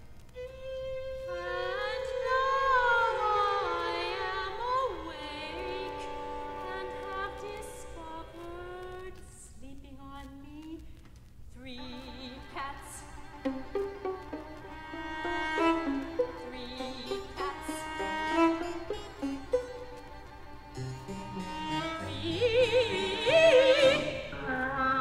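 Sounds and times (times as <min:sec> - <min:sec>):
bowed strings: 0:00.4 - 0:08.4, 0:11.8 - 0:25.0
soprano singing with vibrato: 0:00.7 - 0:10.8, 0:11.6 - 0:14.0, 0:14.8 - 0:20.2, 0:21.4 - 0:25.0.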